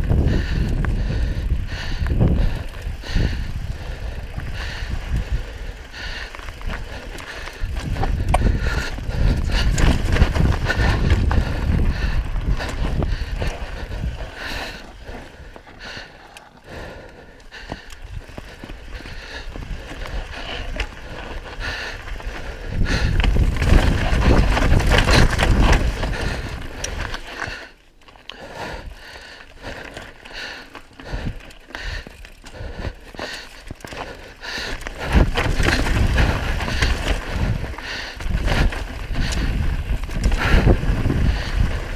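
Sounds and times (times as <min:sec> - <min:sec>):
wind buffeting microphone: 0:00.0 - 0:27.7, 0:28.7 - 0:41.9
bike rattling: 0:00.0 - 0:41.9
bike tyres crunching on rock: 0:00.0 - 0:41.9.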